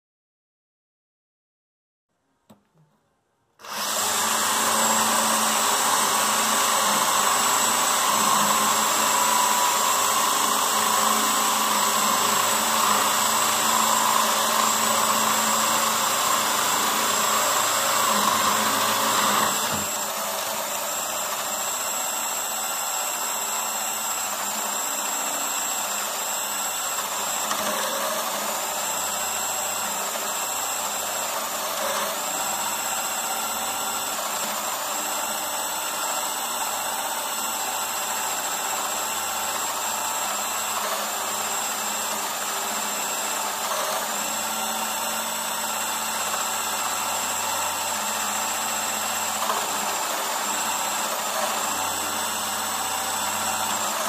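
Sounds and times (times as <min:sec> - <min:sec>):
cordless drill drilling wood: 0:03.6 - 0:54.0.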